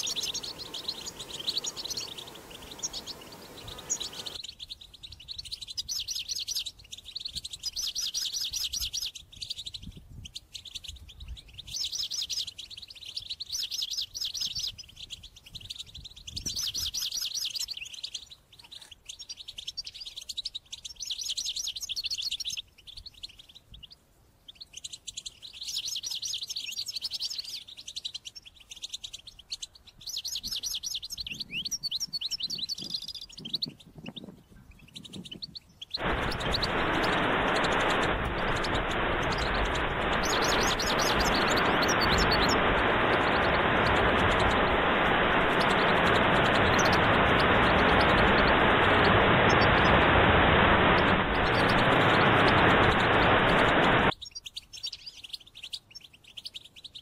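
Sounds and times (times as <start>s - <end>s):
goldfinch singing: 0.0s - 50.0s, 50.6s - 57.0s.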